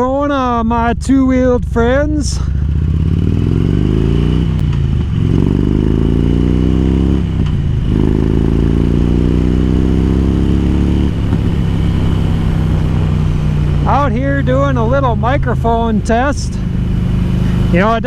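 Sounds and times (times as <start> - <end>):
motorcycle engine accelerating: 1.8 - 18.0.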